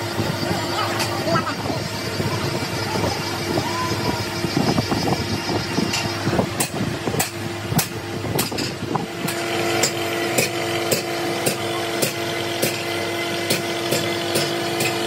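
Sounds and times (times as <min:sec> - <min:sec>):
grinding machine hum: 0:00.0 - 0:15.0.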